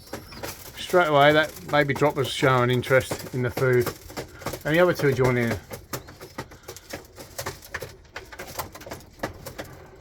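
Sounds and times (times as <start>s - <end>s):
pigeons cooing: 0.0s - 10.0s
pigeons pecking on plastic tray: 0.0s - 10.0s.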